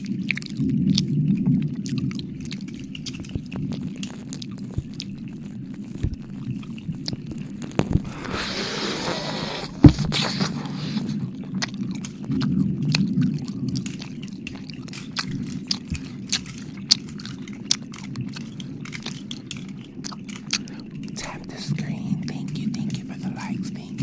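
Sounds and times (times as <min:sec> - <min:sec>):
steady low rumble: 0:00.0 - 0:24.0
wet mouth clicks and smacks: 0:00.0 - 0:24.0.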